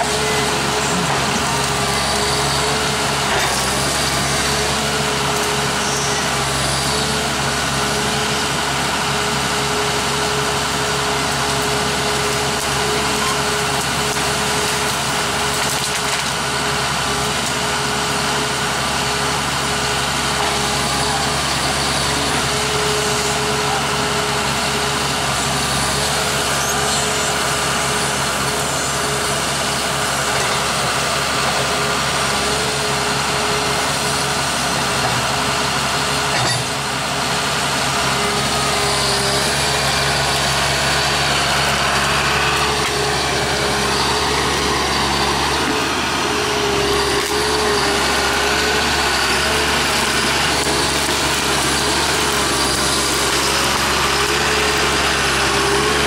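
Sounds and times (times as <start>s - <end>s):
heavy machine engine running: 0.0s - 56.0s
hydraulic crane whine: 0.0s - 56.0s.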